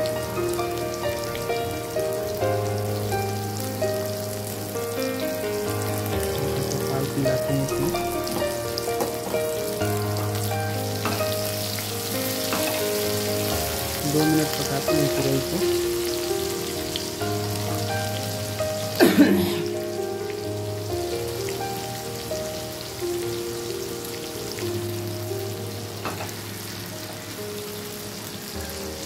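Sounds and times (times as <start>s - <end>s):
background music: 0.0s - 29.0s
vegetable slices sizzling in fat: 0.0s - 29.0s.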